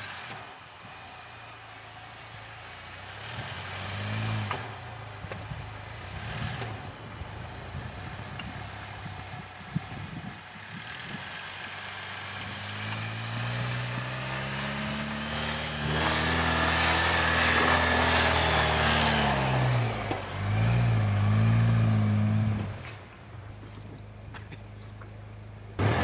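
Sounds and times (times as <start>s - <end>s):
engine revving with hissing exhaust: 0.0s - 23.2s, 25.8s - 26.0s.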